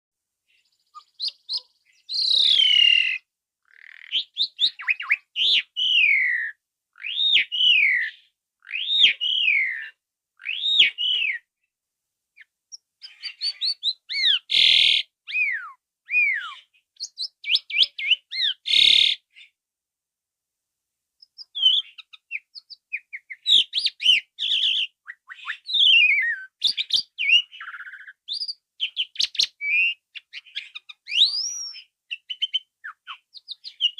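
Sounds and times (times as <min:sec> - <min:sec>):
starling singing: 0:01.0 - 0:11.5, 0:12.4 - 0:19.2, 0:21.2 - 0:33.9.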